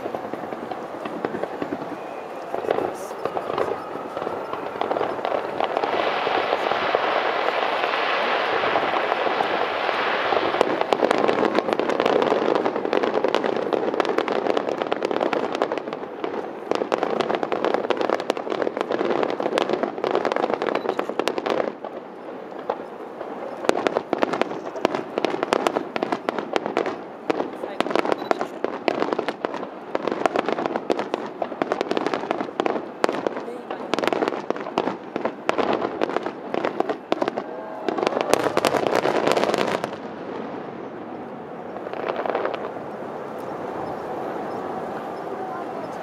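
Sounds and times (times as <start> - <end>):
fireworks crackling and popping: 0.0 - 46.0
fireworks sharp bangs: 0.0 - 46.0.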